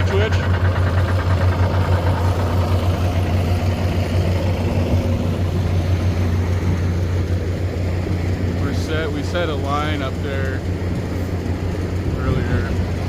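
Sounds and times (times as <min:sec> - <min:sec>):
engine idling low hum: 0:00.0 - 0:13.0.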